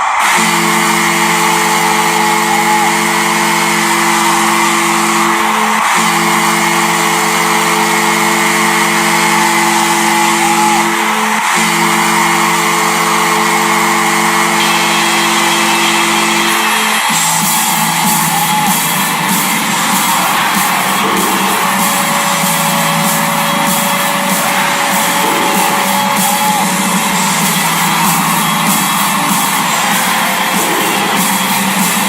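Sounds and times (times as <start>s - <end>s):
goal horn low chord blasts: 0.1s - 32.0s.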